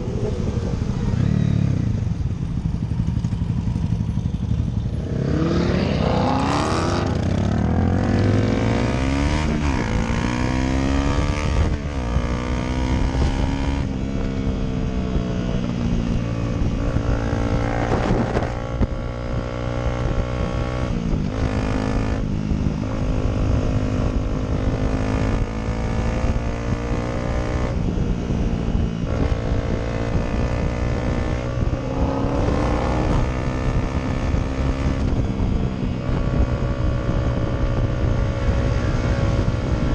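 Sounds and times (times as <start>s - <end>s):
motorcycle engine accelerating: 0.0s - 39.9s
wind rushing: 5.0s - 39.9s.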